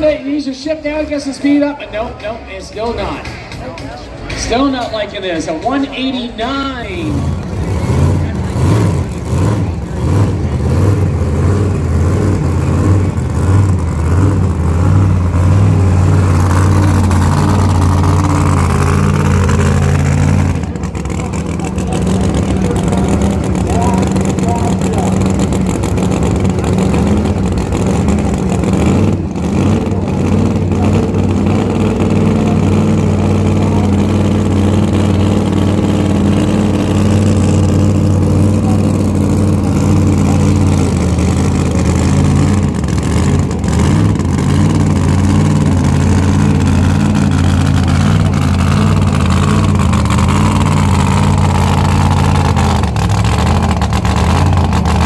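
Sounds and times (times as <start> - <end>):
engine whine: 0.0 - 55.0
tractor diesel engine under load: 0.0 - 55.0.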